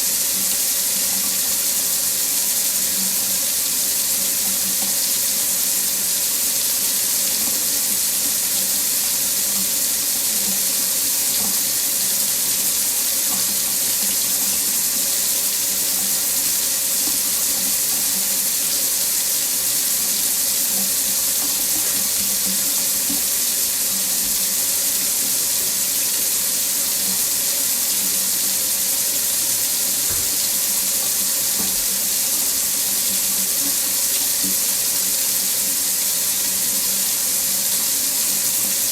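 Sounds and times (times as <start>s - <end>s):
water running into a sink: 0.0s - 38.9s.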